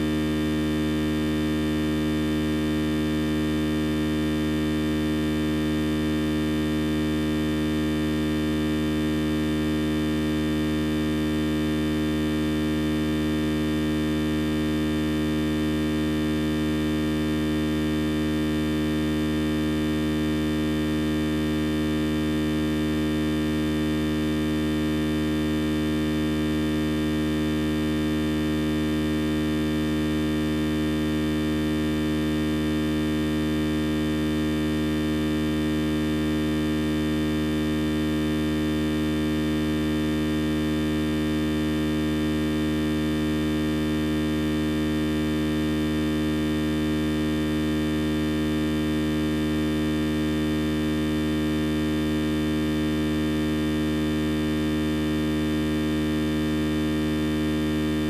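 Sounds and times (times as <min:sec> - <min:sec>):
steady electronic hum: 0:00.0 - 0:58.0.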